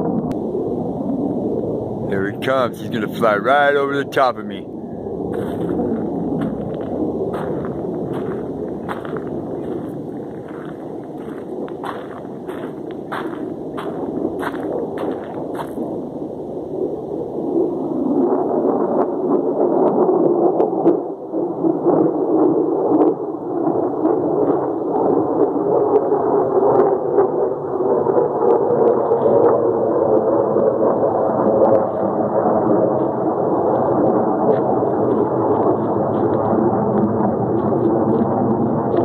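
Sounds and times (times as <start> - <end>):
fighter jet flying overhead: 0.0 - 39.0.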